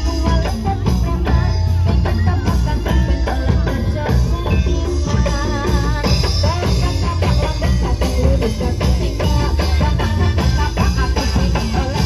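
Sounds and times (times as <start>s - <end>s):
steady drumming: 0.0s - 12.0s
wavering melody line: 0.0s - 12.0s.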